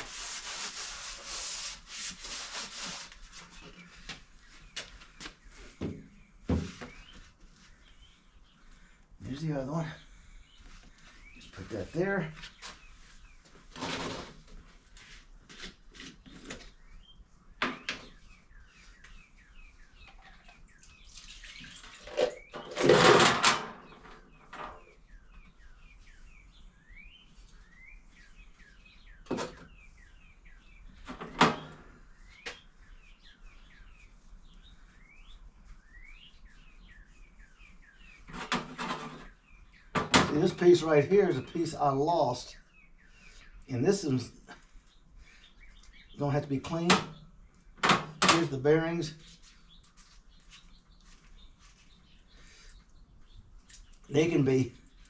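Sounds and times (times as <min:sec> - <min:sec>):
small birds chirping: 0:00.2 - 0:55.0.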